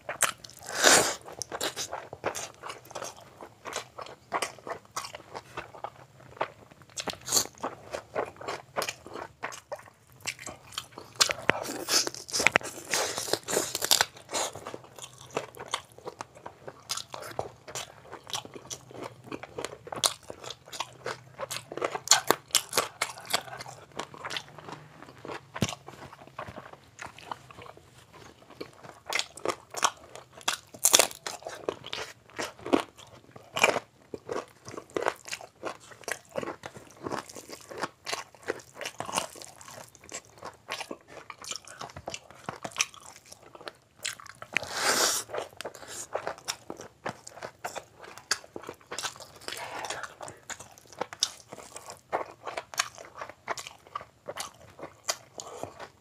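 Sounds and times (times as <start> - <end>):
person chewing with wet smacks: 0.0 - 56.0.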